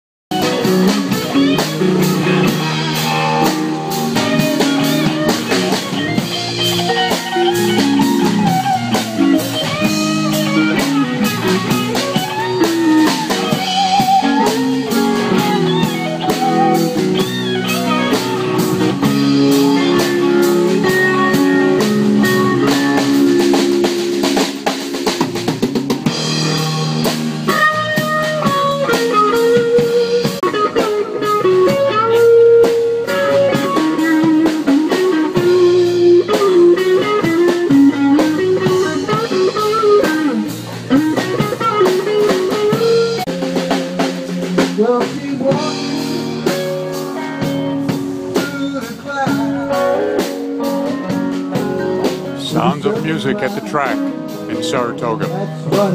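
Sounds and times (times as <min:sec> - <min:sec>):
drum kit steady beat: 0:00.3 - 0:55.9
guitar: 0:00.3 - 0:55.9.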